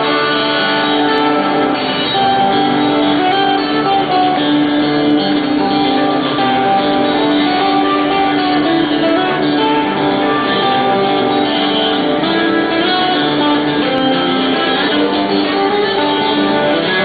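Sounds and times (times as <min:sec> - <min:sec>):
guitar strumming and plucking: 0:00.0 - 0:17.0.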